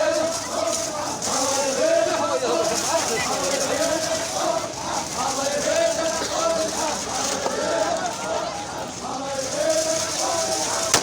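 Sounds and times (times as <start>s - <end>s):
crowd of men chanting and shouting: 0.0s - 11.0s.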